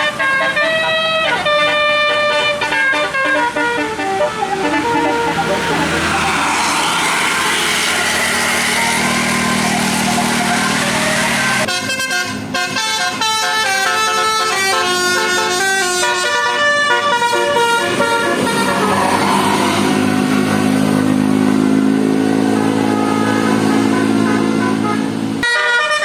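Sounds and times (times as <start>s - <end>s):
bus engine running: 0.0s - 25.9s
multi-tone air horn melody: 0.0s - 26.0s.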